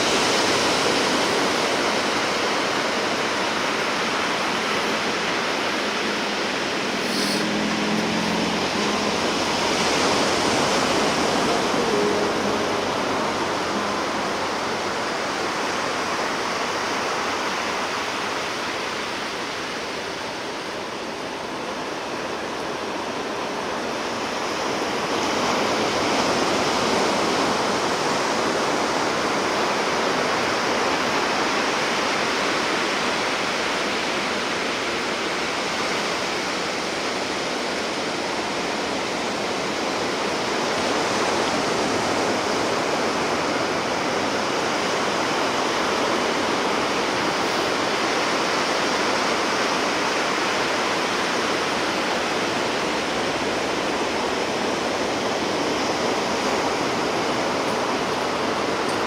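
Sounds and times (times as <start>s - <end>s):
sea surf washing on shore: 0.0s - 59.0s.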